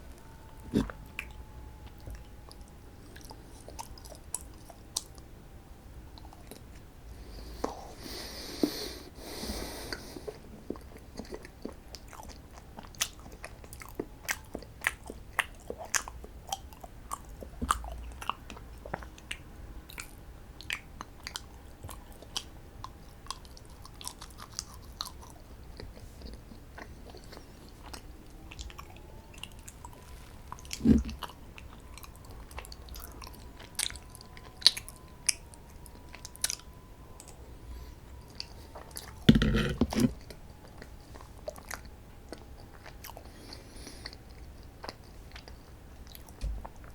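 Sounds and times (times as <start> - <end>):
person chewing and crunching: 0.1 - 5.3, 7.5 - 37.4, 38.2 - 46.9.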